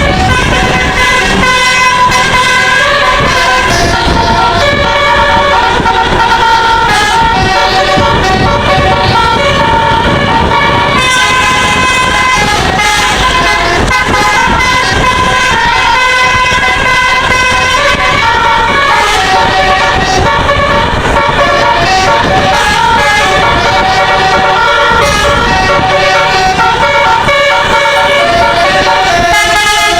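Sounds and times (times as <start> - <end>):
musical air horn melody: 0.0 - 29.9.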